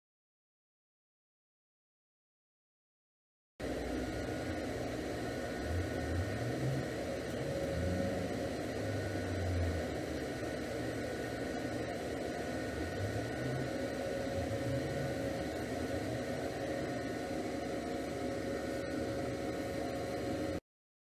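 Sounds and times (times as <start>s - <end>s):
low wavering drone: 3.6s - 20.6s
machine hum and hiss: 3.6s - 20.6s.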